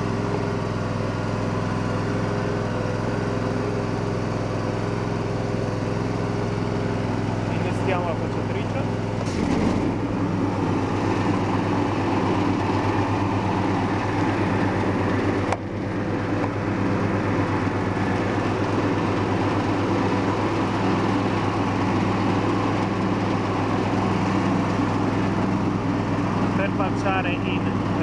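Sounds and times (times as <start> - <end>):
garden tractor engine running: 0.0 - 28.0.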